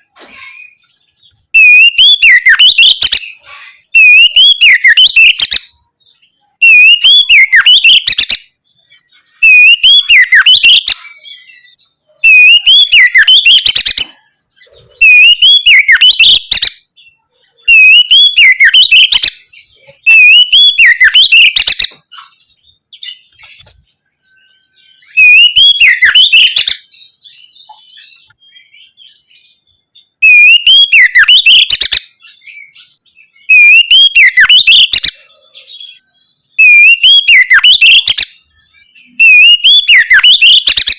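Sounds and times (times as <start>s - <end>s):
bird singing whistled phrases: 0.3s - 40.9s.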